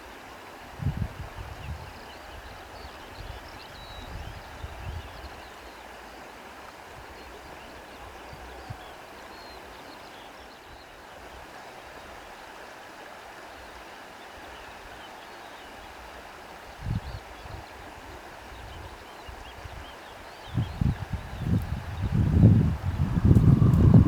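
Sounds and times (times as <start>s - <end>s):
stream flowing: 0.0s - 0.8s, 1.9s - 24.0s.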